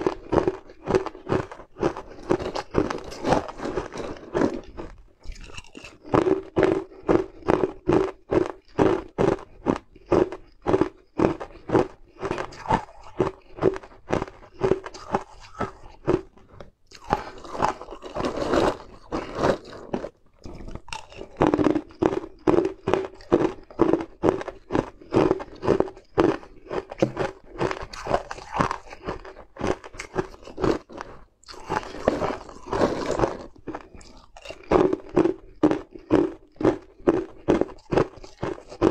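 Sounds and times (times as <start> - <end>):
ice cubes being crunched: 0.0 - 16.2, 16.9 - 38.9.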